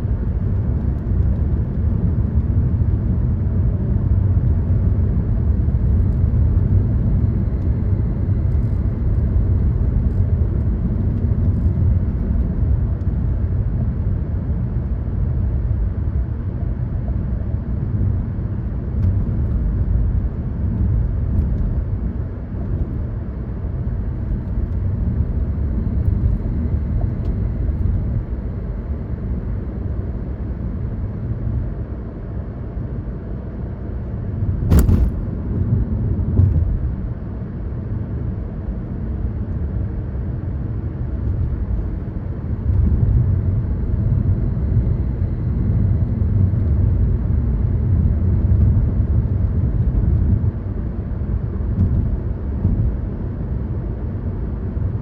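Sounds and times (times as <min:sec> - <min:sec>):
car engine and tyre road noise: 0:00.0 - 0:55.0.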